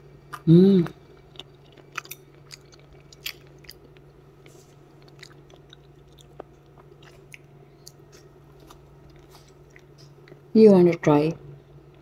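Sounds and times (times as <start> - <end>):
steady low hum: 0.0 - 12.0
person chewing crunchy food: 0.2 - 10.5.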